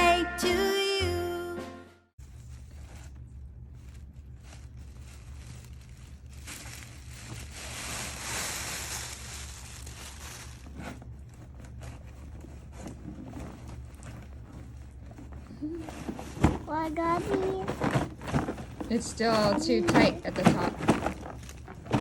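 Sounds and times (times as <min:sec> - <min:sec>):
steady low hum: 0:02.2 - 0:22.0
wrapping paper rustling: 0:02.2 - 0:22.0.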